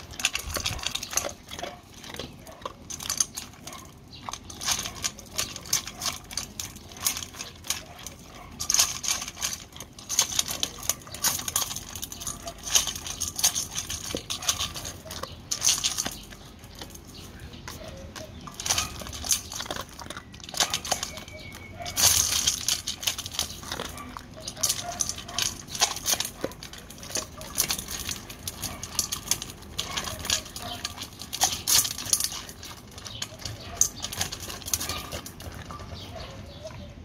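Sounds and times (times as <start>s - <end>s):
pellets clicking against metal bowl: 0.0s - 36.6s
dog crunching dry kibble: 0.0s - 37.0s.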